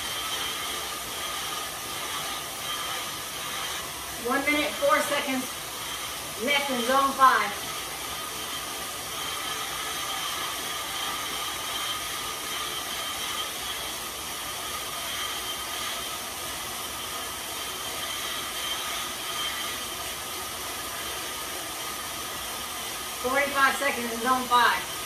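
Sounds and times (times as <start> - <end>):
bike tyre whirring on rollers: 0.0 - 25.0.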